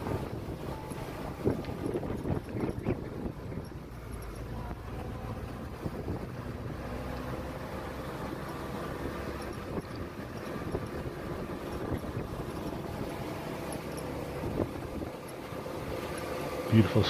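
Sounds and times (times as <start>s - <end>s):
jeep engine running: 0.0s - 17.0s.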